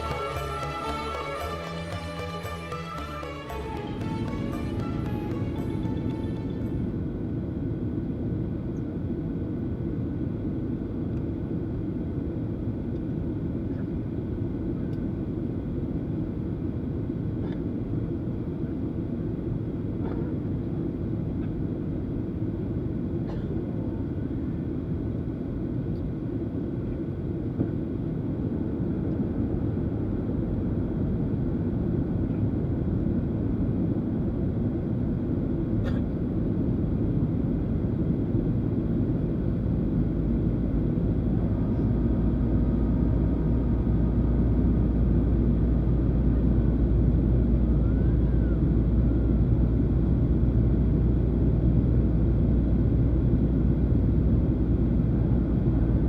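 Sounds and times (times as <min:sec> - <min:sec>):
aircraft cabin rumble: 0:03.2 - 0:56.0.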